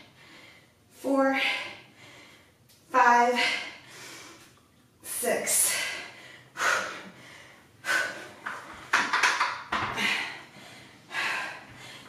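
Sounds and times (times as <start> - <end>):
woman breathing heavily: 0.0 - 2.6, 3.2 - 4.5, 5.4 - 9.0, 9.8 - 12.0.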